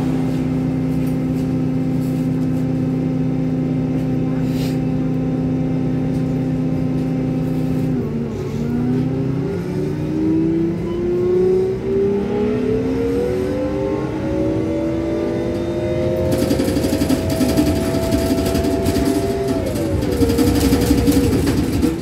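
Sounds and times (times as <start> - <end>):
road rumble: 0.0 - 22.0
vehicle engine running: 0.0 - 22.0.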